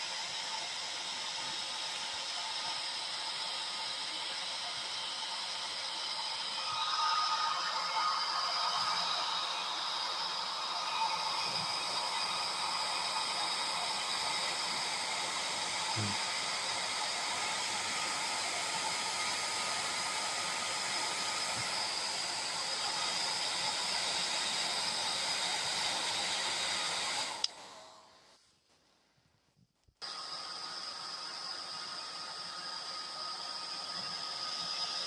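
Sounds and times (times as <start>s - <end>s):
hair dryer blowing: 0.0s - 28.2s, 30.0s - 35.0s.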